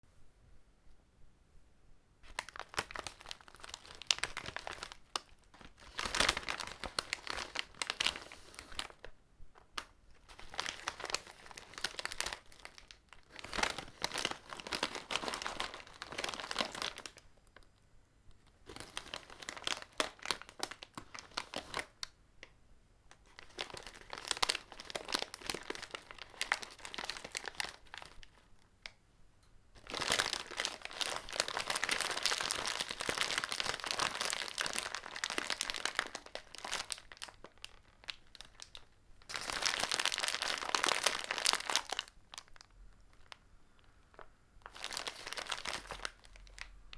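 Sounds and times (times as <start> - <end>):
paper bag being crumpled: 2.2 - 17.2, 18.6 - 22.0, 23.2 - 28.5, 29.8 - 43.4, 44.1 - 46.7.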